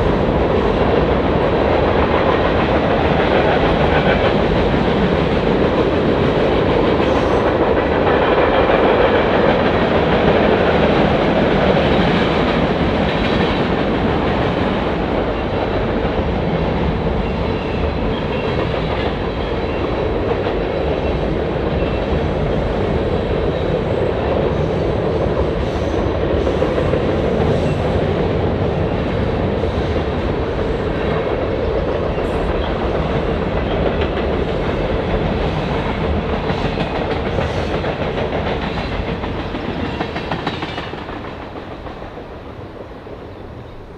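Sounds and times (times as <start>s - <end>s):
train cars rumbling past: 0.0s - 43.9s.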